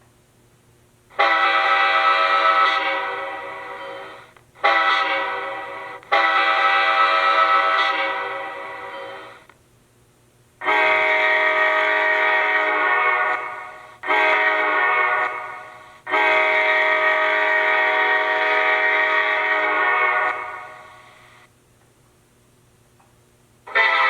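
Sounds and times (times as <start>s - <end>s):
locomotive air horn through small speaker: 1.1s - 9.5s, 10.6s - 21.5s, 23.7s - 24.0s.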